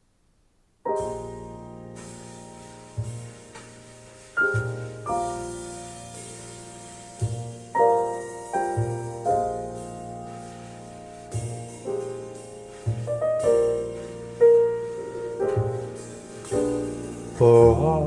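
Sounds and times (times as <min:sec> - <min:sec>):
slow solo piano through loudspeakers: 0:00.8 - 0:18.0.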